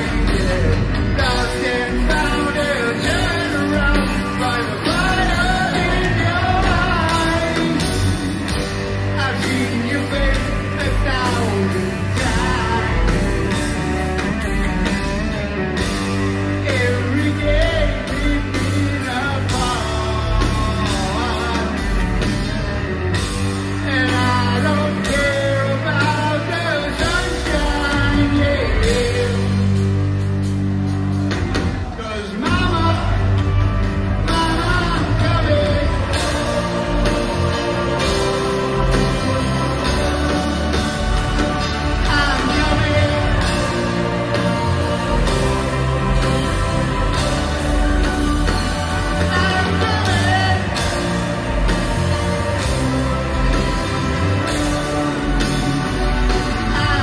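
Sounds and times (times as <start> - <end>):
person singing: 0.0 - 29.9, 34.2 - 57.0
rock band playing: 0.0 - 57.0.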